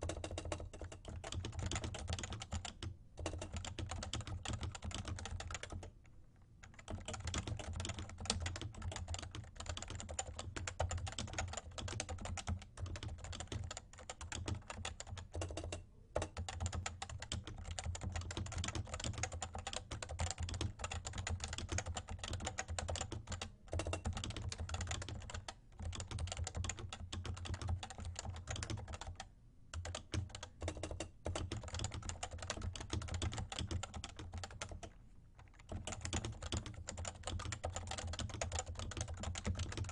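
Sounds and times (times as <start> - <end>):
fast typing on keyboard: 0.0 - 5.9, 6.6 - 39.9.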